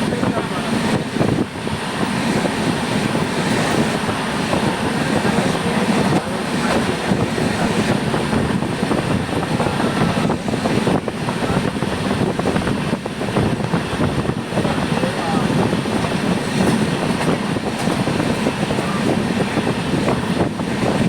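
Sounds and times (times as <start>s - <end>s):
train wheels rumbling and rattling: 0.0s - 21.0s.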